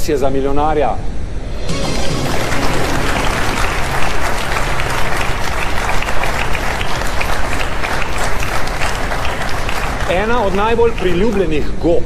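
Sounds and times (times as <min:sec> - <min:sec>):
audience clapping: 0:01.7 - 0:11.7.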